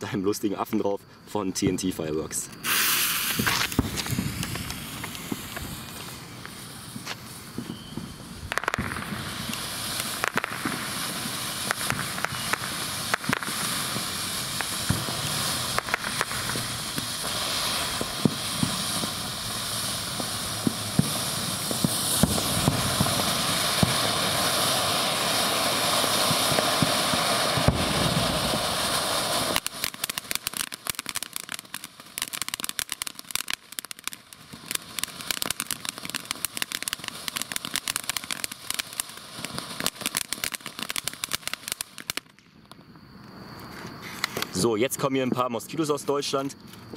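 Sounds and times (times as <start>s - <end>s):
firework crackling: 1.6s - 46.9s
firework fountain hissing: 2.1s - 46.2s.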